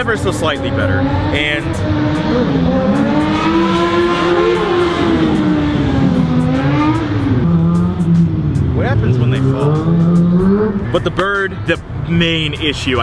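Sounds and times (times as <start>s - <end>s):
car engines passing: 0.0s - 13.0s.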